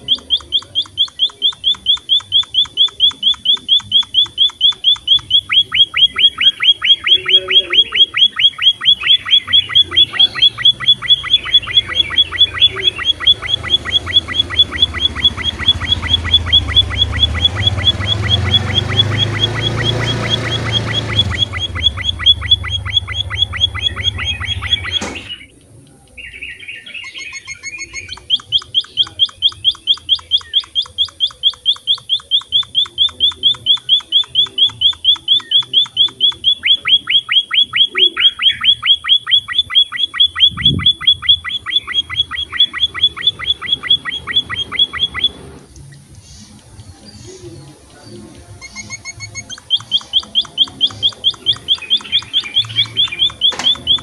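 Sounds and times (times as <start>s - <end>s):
finch chirping: 0.0s - 54.0s.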